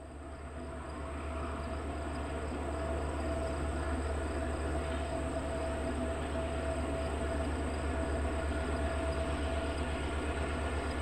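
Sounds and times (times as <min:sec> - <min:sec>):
distant diesel locomotive rumbling: 0:00.0 - 0:11.0.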